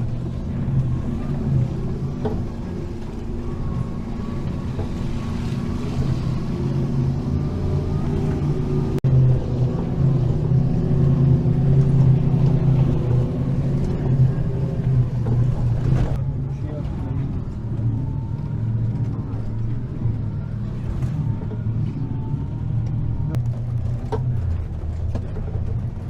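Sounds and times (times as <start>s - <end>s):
road rumble: 0.0s - 26.0s
vehicle engine droning: 0.0s - 26.0s.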